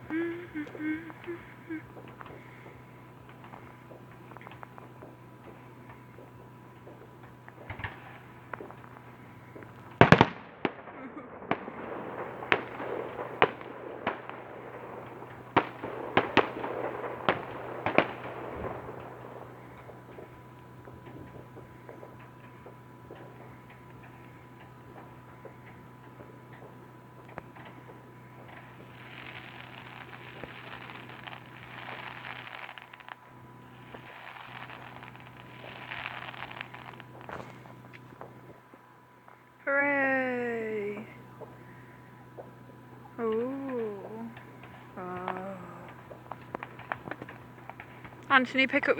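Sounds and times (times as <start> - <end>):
fireworks bangs: 0.0 - 38.9, 40.2 - 48.9
fireworks crackling: 0.0 - 48.9.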